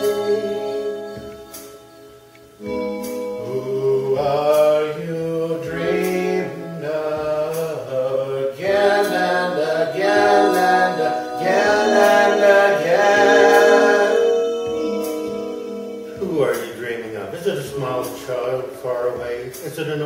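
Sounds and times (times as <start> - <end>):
electronic keyboard organ chords: 0.0 - 20.0.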